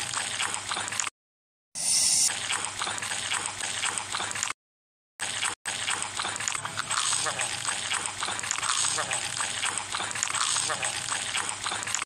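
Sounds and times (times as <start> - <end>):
wet chewing and slurping: 0.0 - 1.1, 2.0 - 4.6, 5.2 - 12.0.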